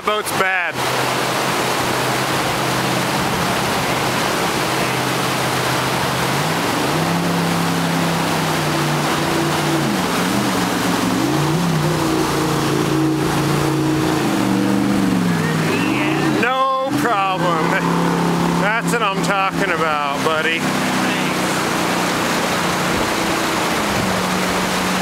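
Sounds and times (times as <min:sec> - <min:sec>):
boat engine running: 0:00.0 - 0:25.0
white-water rapids rushing: 0:00.0 - 0:25.0.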